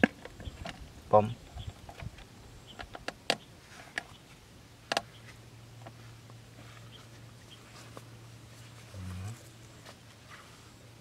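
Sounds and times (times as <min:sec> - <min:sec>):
faint low hum: 0:00.2 - 0:11.0.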